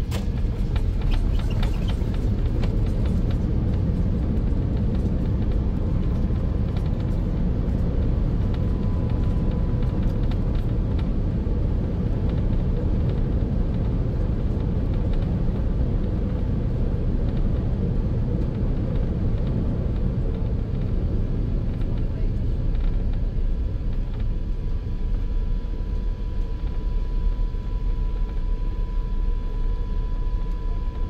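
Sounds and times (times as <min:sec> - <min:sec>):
aircraft cabin engine rumble: 0:00.0 - 0:31.0
faint steady whine: 0:00.0 - 0:31.0.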